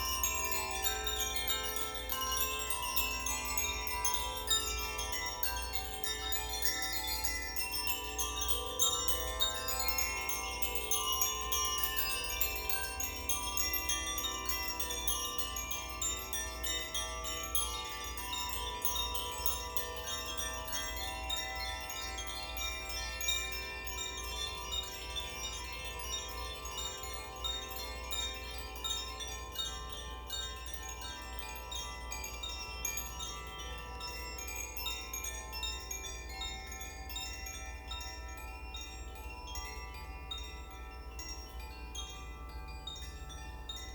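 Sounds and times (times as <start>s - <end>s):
wind chimes ringing: 0.0s - 43.9s.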